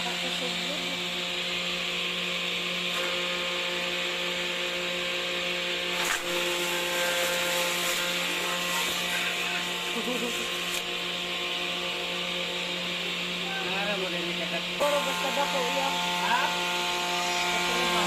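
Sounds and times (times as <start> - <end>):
plant shredder grinding: 0.0 - 18.0.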